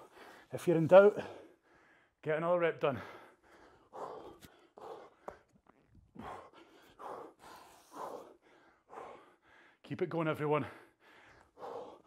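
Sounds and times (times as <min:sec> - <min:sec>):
man breathing hard: 0:00.0 - 0:02.2, 0:02.9 - 0:09.9, 0:10.6 - 0:12.0.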